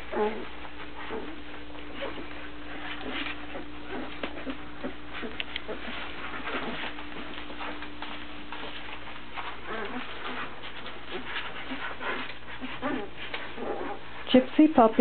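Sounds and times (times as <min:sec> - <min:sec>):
puppies squeaking and whimpering: 0:00.0 - 0:14.3.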